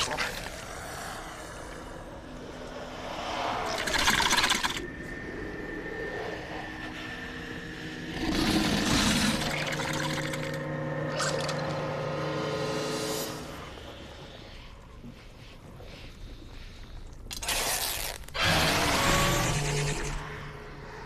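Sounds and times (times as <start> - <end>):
low suspense drone: 0.0 - 21.0.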